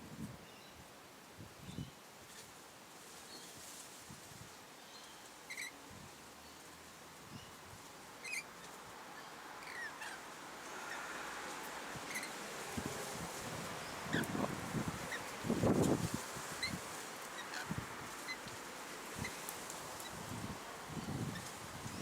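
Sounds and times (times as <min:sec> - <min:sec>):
faint background hiss: 0:00.0 - 0:22.0.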